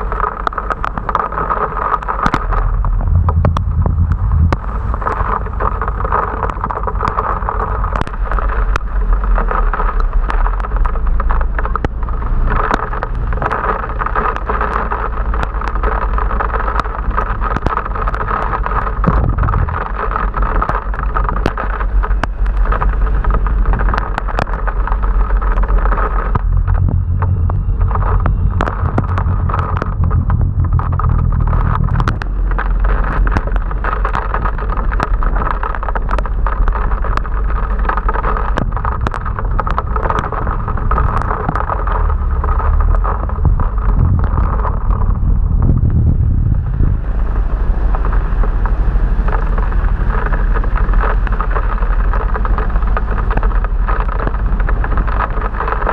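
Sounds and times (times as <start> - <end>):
rain and wind on microphone: 0.0 - 55.9
traffic: 0.0 - 55.9.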